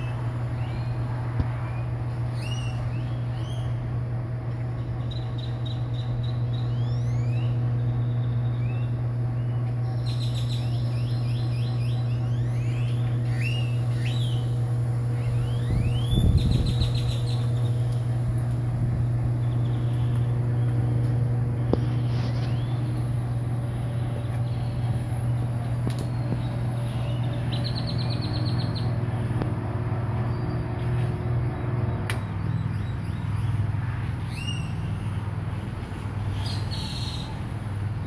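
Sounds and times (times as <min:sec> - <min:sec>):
birds chirping: 0:00.0 - 0:37.5
corn roaster humming: 0:00.0 - 0:38.0.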